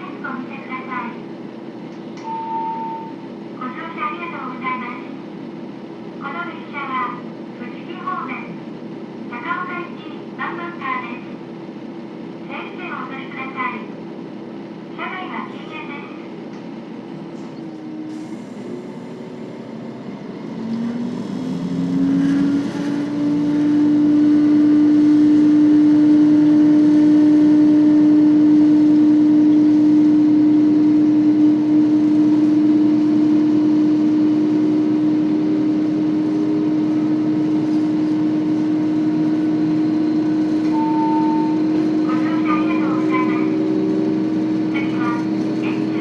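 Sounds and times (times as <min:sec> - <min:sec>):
diesel railcar engine drone: 0:00.0 - 0:46.0.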